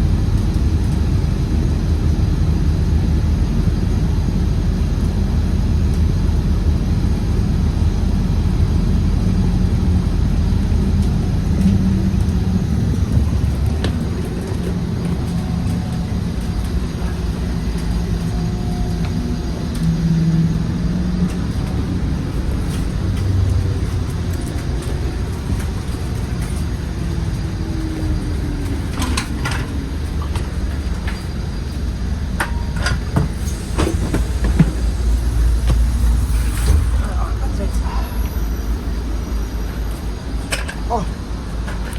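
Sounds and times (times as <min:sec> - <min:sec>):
bus engine and road rumble: 0:00.0 - 0:41.9.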